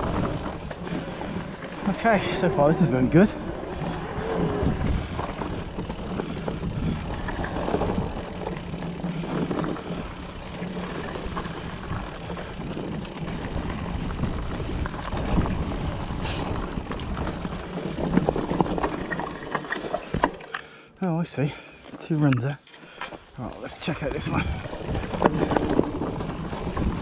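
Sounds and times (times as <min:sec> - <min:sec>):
bike rattling and knocking: 0:00.0 - 0:20.5, 0:22.0 - 0:27.0
bike tyres rolling over dirt: 0:00.0 - 0:20.8, 0:21.5 - 0:27.0.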